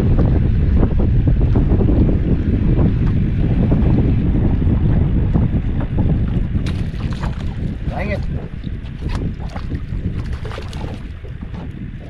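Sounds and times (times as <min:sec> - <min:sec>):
water slapping boat hull: 0:00.0 - 0:12.0
wind buffeting microphone: 0:00.0 - 0:12.0.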